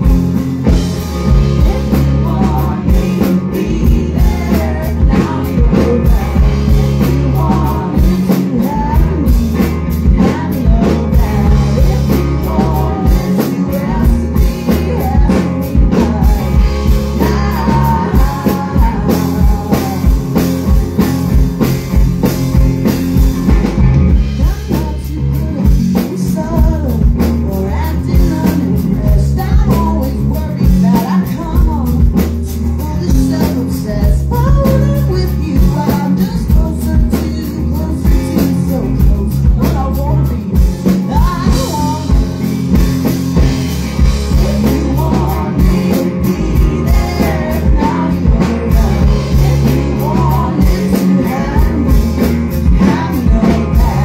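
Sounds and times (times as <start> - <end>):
woman singing: 0.0 - 21.1, 24.2 - 54.0
bass guitar: 0.0 - 54.0
drums beating: 0.0 - 54.0
electric guitar: 0.0 - 54.0.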